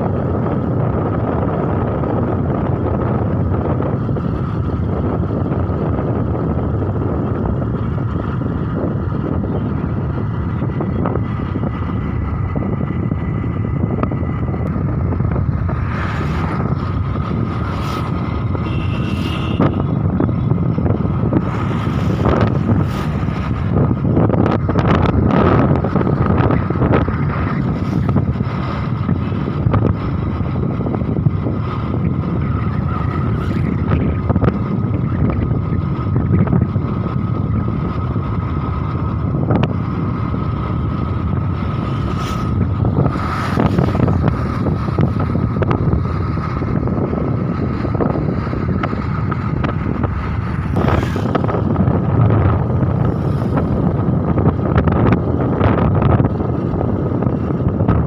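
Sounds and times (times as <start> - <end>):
vehicle rumble on road: 0.0 - 58.0
wind buffeting microphone: 0.0 - 58.0.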